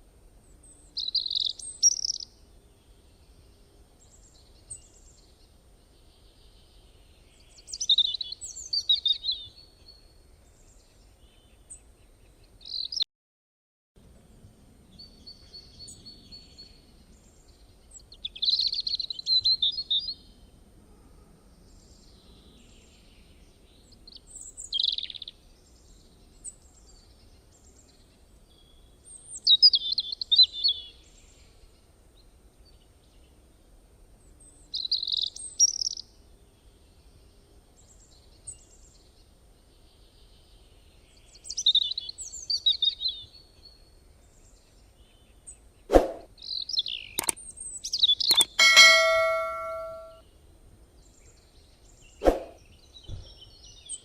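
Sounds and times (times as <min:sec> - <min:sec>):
faint low background noise: 0:00.0 - 0:13.0, 0:14.0 - 0:54.0
bird chirping song: 0:00.4 - 0:13.1, 0:14.4 - 0:20.6, 0:21.6 - 0:31.7, 0:34.2 - 0:50.2.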